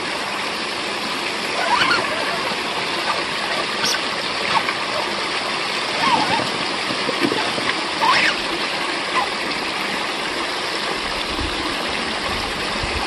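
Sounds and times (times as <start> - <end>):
waterfall over rocks: 0.0 - 13.0.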